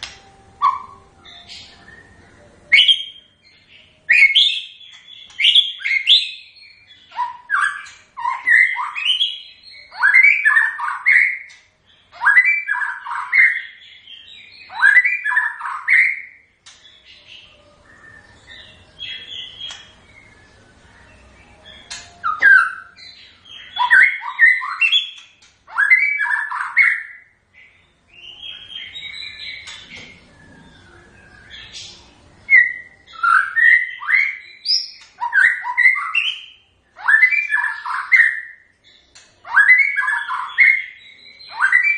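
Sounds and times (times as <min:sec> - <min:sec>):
bird singing whistled phrases: 0:00.6 - 0:03.4, 0:04.1 - 0:16.4, 0:21.6 - 0:38.7, 0:39.4 - 0:41.9.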